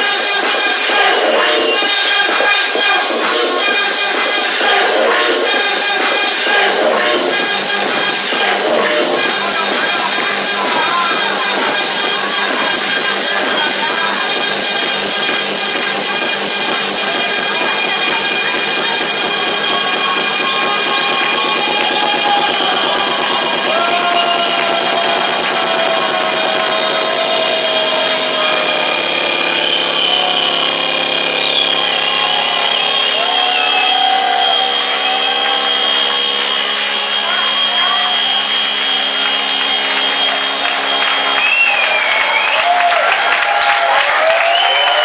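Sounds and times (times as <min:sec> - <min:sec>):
crowd cheering and whistling: 0:00.0 - 0:45.0
electronic dance music: 0:00.0 - 0:45.0.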